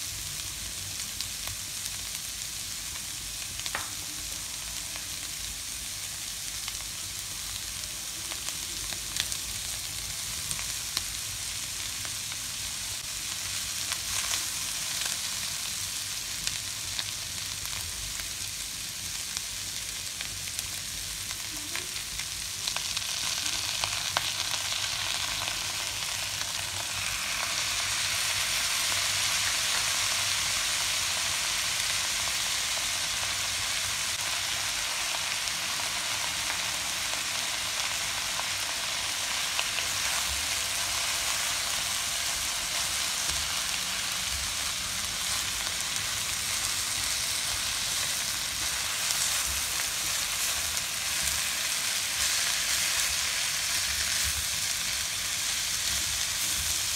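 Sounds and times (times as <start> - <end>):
food sizzling in a wok: 0.0 - 56.9.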